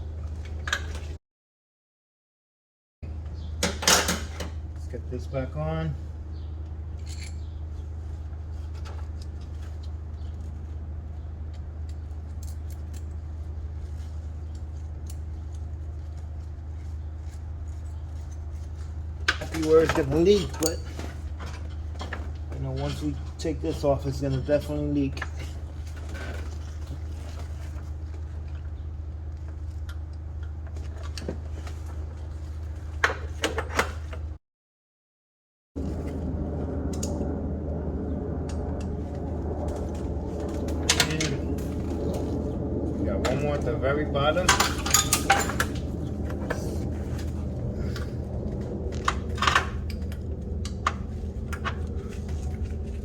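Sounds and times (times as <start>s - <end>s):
steady low hum: 3.0s - 33.4s, 35.8s - 53.0s.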